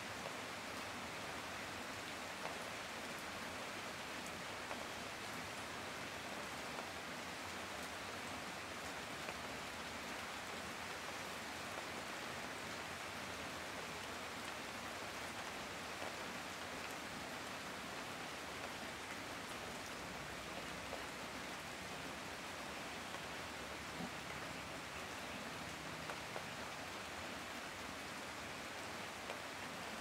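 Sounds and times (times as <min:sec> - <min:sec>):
heavy rain falling: 0:00.1 - 0:30.0.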